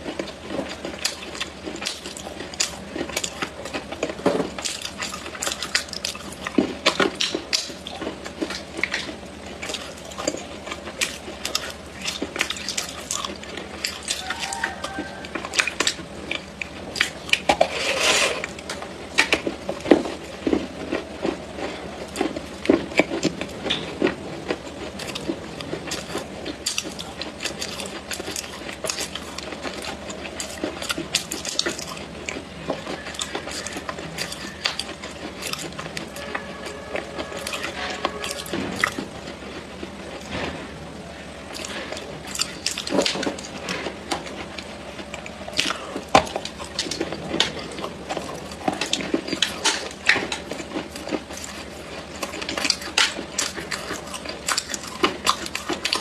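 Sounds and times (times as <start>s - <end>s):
chewing crunches: 0.0s - 56.0s.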